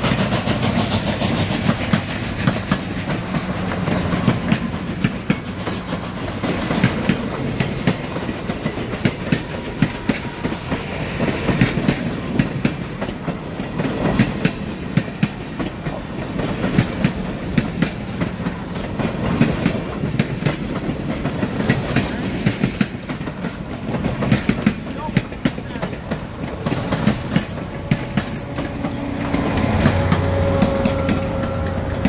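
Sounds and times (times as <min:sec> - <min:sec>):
train rumble: 0:00.0 - 0:32.0
train wheels clacking over rail joints: 0:00.0 - 0:32.0.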